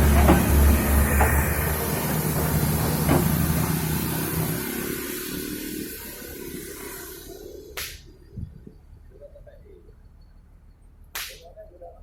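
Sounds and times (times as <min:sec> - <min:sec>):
diesel engine running: 0:00.0 - 0:10.8.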